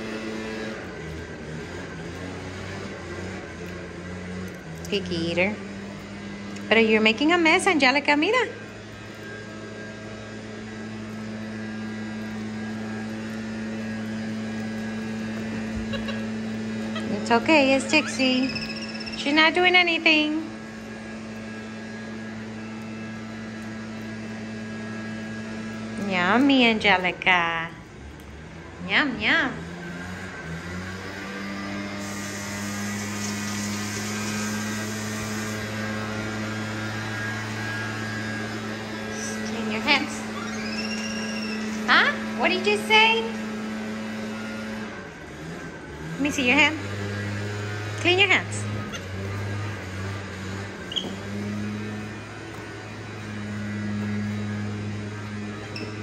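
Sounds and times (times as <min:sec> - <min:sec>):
leaf blower engine droning: 0:00.0 - 0:56.0.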